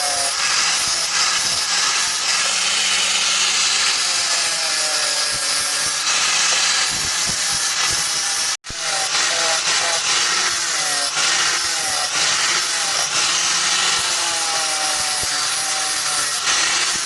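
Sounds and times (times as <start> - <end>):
power tool grinding: 0.0 - 17.0.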